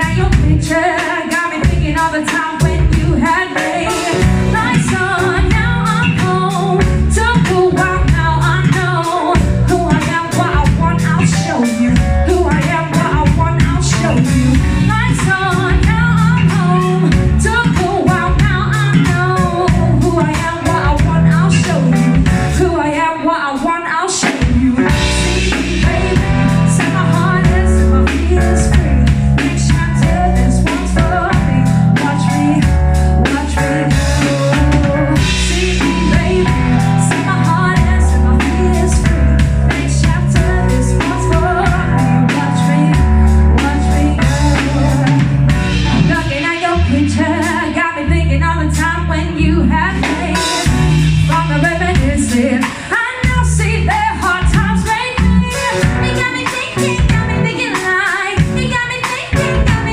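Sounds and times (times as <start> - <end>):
live band playing pop song: 0.0 - 59.9.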